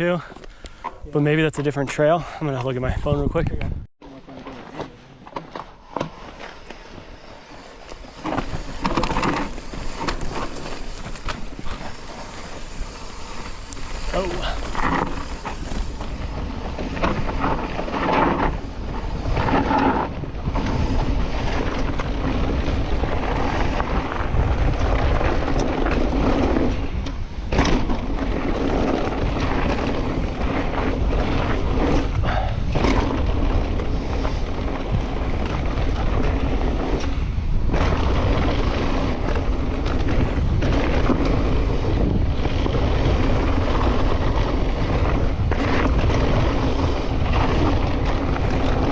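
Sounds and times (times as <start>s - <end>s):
bike tyres rolling on dry trail: 2.6s - 48.9s
wind on microphone: 2.8s - 3.9s, 6.8s - 48.9s
bike knocks and rattles: 8.0s - 48.9s.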